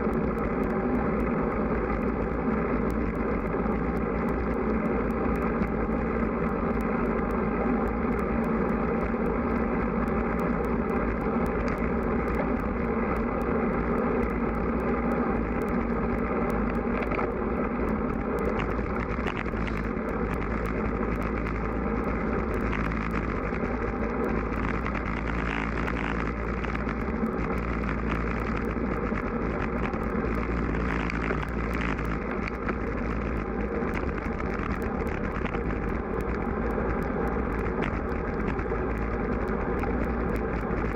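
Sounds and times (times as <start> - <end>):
faint ticking: 0.0 - 40.9
wind and road noise: 0.0 - 40.9.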